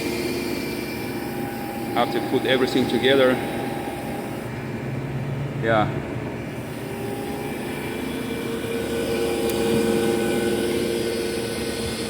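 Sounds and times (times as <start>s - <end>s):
held humming tones: 0.0s - 12.0s
steady mechanical drone: 0.0s - 12.0s.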